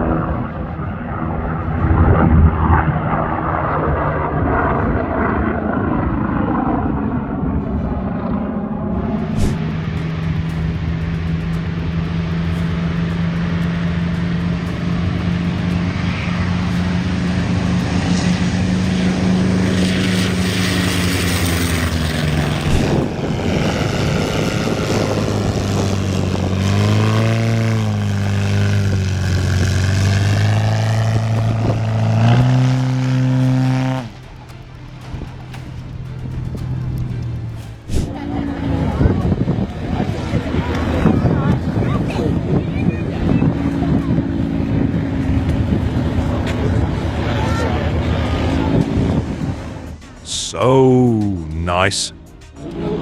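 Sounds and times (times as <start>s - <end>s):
engine humming: 0.0s - 53.0s.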